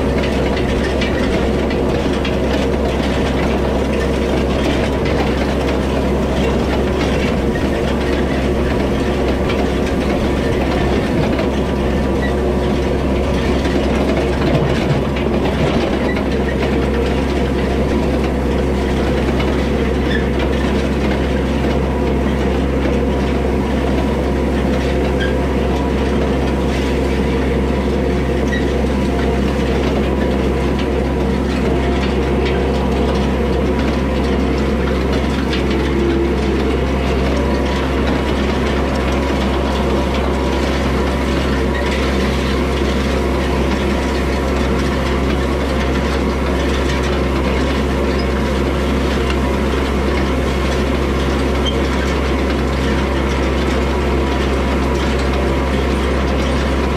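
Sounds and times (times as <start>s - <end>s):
hay rake clatter and rattle: 0.0s - 56.9s
tractor diesel engine running: 0.0s - 56.9s.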